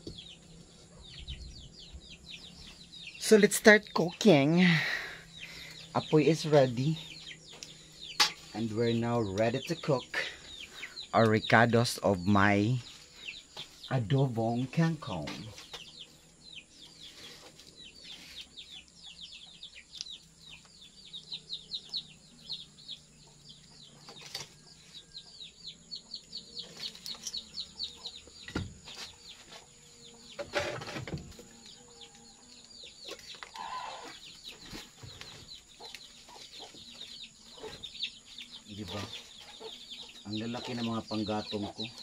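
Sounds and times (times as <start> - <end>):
chicks peeping: 0.0 - 42.0.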